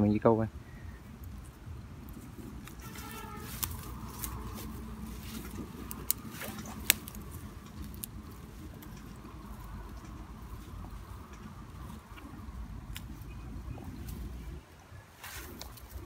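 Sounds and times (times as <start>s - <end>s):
low steady rumble: 0.0s - 16.0s
dry grass rustling: 0.6s - 16.0s.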